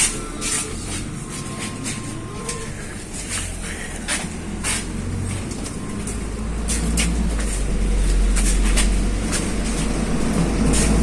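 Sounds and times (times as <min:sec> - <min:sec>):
bus engine droning: 0:00.0 - 0:11.0
road noise: 0:00.0 - 0:11.0.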